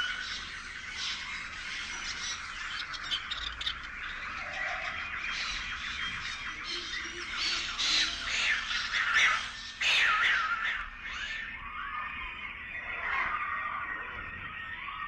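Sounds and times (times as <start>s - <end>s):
birds chirping in a chorus: 0.0s - 15.0s.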